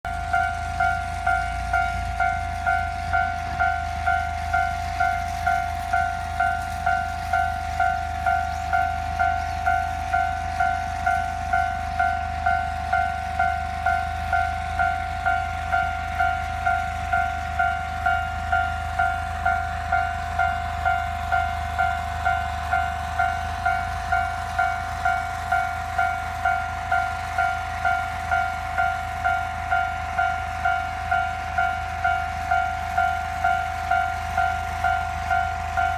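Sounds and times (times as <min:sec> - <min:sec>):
level crossing alarm ringing: 0:00.0 - 0:35.9.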